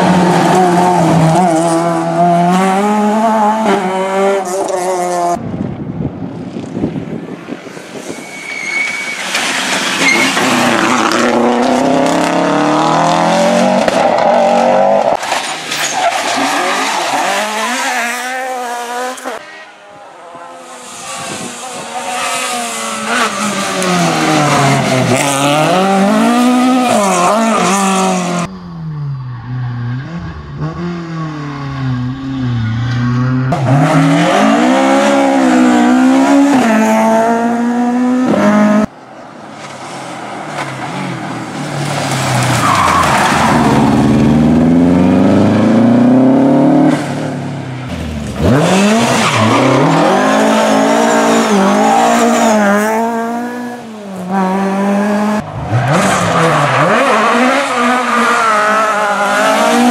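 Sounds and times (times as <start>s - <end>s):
rally car engines revving: 0.0s - 5.5s, 8.3s - 28.6s, 29.2s - 59.9s.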